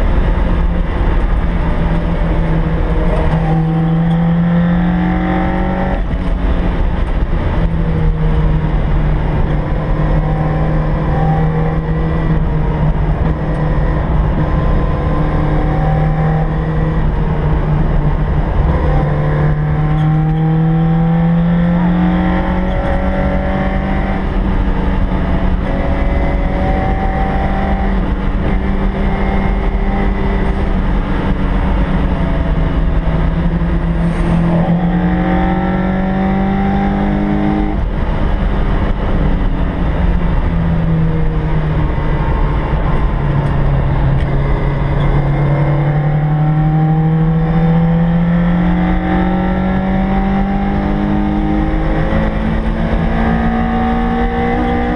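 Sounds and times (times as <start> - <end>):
car engine accelerating: 0.0 - 54.9
road and wind rumble: 0.0 - 54.9.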